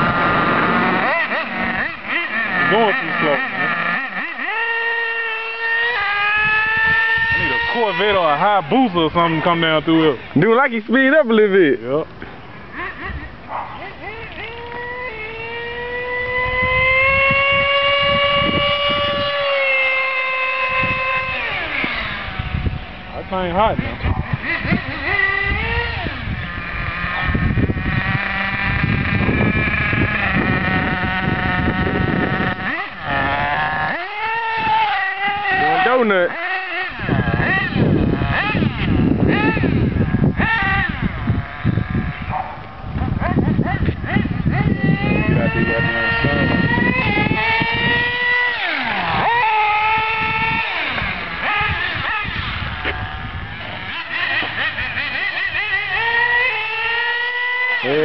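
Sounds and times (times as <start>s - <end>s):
remote-control buggy motor running: 0.0s - 12.0s, 12.7s - 58.0s
small nitro engine buzzing: 0.0s - 58.0s.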